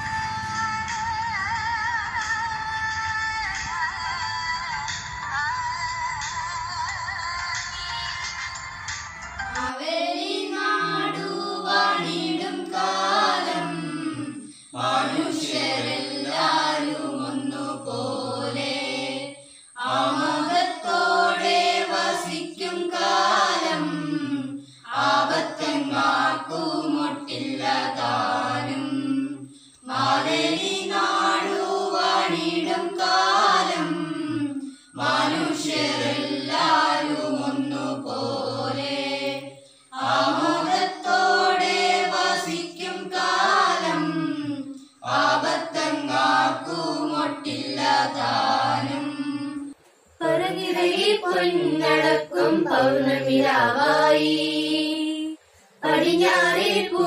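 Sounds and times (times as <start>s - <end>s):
adults and children singing: 0.0s - 57.0s.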